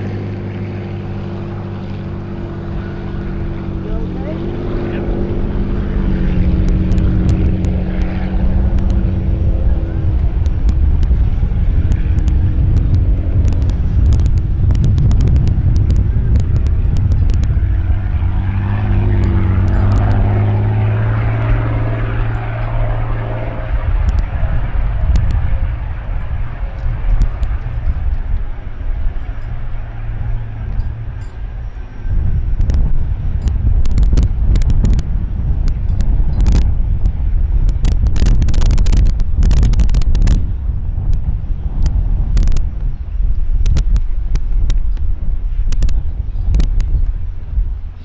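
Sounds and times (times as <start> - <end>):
boat engine rumbling: 0.0 - 48.0.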